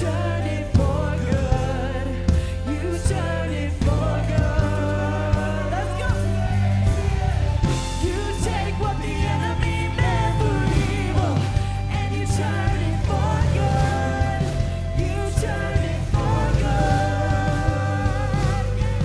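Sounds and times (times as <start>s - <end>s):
pop-rock band playing: 0.0s - 19.0s
woman singing: 0.0s - 19.0s.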